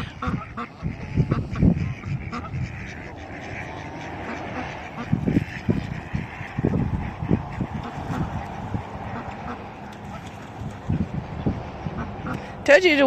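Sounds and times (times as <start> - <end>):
ducks quacking and honking: 0.0 - 13.0.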